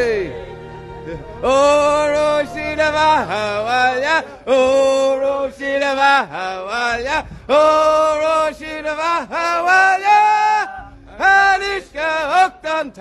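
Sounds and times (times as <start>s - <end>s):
man singing slow chant: 1.1s - 13.0s.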